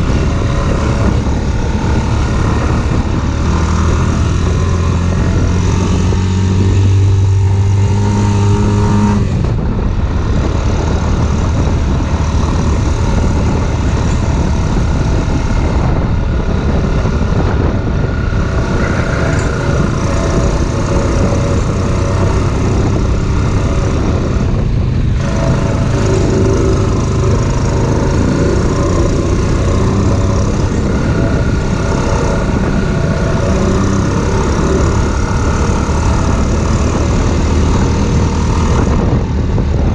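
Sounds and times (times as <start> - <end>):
constant rushing noise: 0.0 - 39.9
off-road vehicle engine: 0.0 - 39.9.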